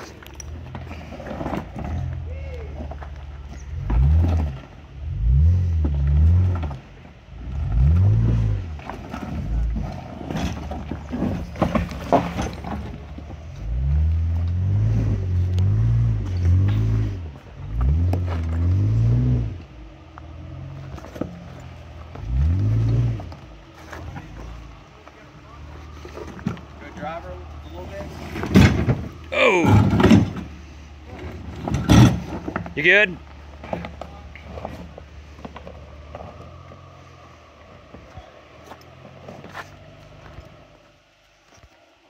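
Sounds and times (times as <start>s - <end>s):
rocks crunching under tyres: 0.0s - 41.8s.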